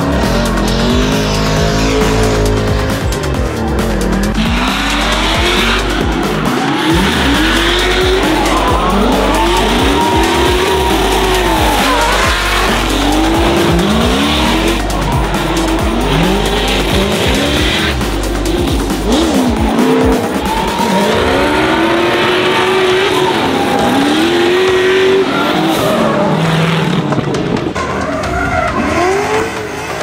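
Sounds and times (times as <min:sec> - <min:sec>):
car engines revving: 0:00.0 - 0:30.0
tyres squealing: 0:00.1 - 0:30.0.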